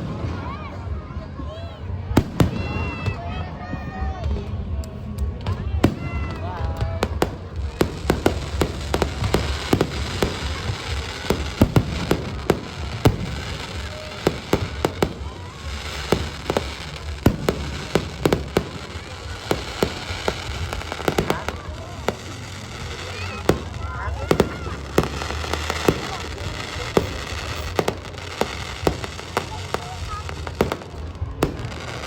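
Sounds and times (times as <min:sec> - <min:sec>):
fireworks bangs and cracks: 0:00.0 - 0:32.0
rumble of distant fireworks: 0:00.0 - 0:32.0.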